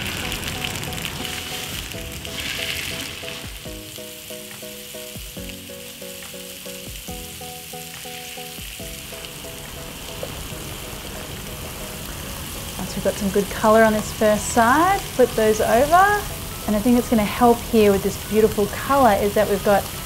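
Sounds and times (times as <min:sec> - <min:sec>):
light plucked background music: 0:00.0 - 0:20.0
meatballs sizzling in a frying pan: 0:00.3 - 0:20.0.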